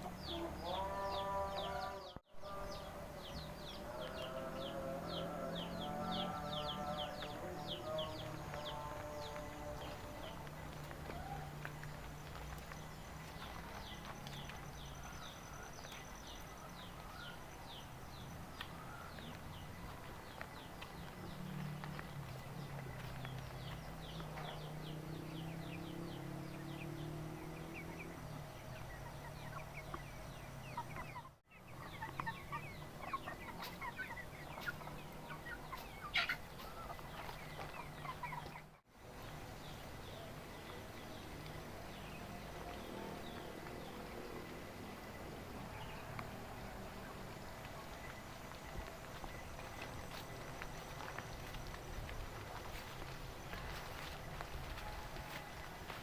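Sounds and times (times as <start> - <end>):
chickens clucking: 0.0 - 24.8, 27.8 - 56.0.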